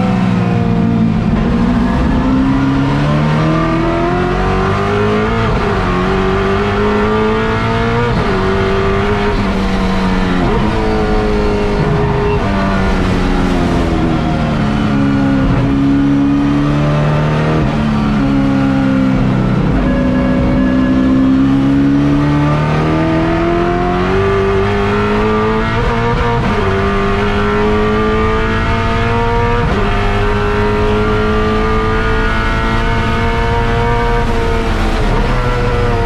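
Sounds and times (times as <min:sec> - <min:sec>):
race car engine: 0:00.0 - 0:36.0.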